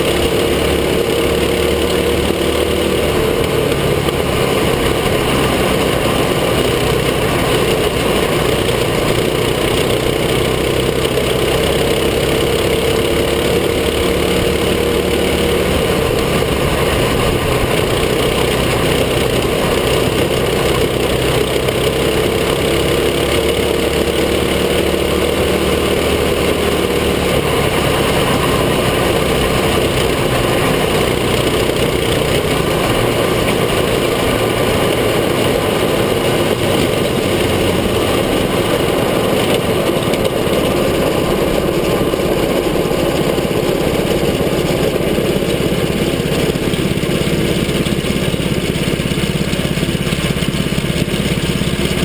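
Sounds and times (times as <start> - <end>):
kart engine running hard: 0.0 - 52.0.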